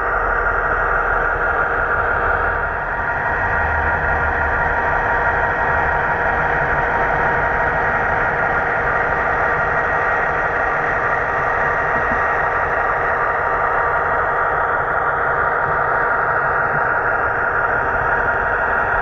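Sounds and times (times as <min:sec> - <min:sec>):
model train motor hum: 0:00.0 - 0:19.0.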